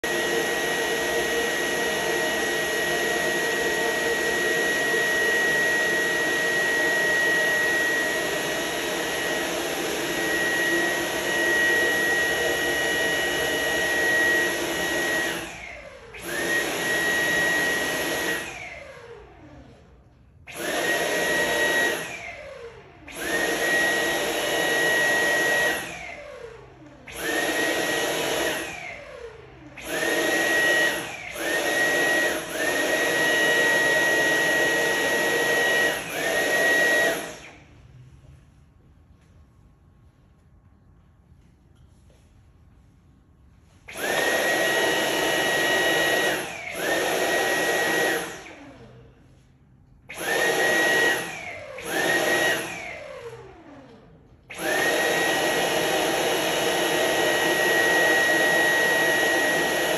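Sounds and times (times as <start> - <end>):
vacuum motor spinning down: 0.0 - 37.8, 43.9 - 49.1, 50.1 - 59.9
vacuum cleaner motor whine: 0.0 - 38.6, 43.6 - 59.9.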